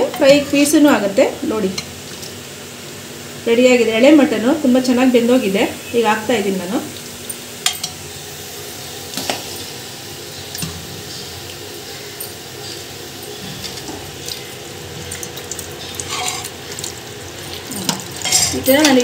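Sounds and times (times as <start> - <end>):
masala sizzling in a pan: 0.0 - 19.0.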